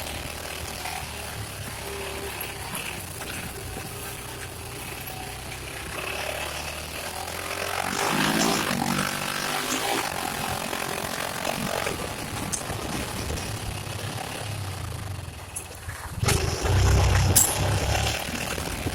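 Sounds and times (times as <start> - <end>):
engine revving: 0.0 - 18.9.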